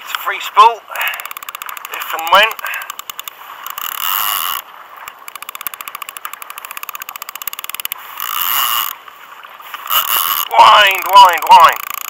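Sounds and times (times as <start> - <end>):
fishing reel clicker ratcheting: 1.0 - 9.0, 9.8 - 12.0.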